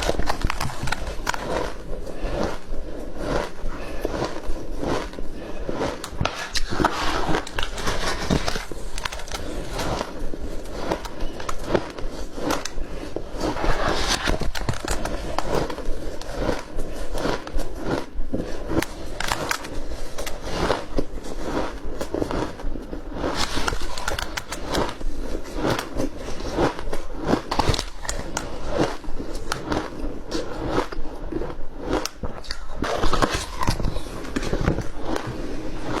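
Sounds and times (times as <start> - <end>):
ice being chewed: 0.0 - 36.0.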